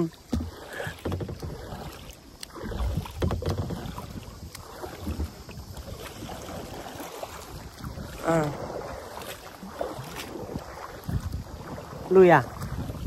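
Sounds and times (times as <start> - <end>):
paddle splashing in water: 0.0 - 13.0
wind buffeting microphone: 0.3 - 13.0.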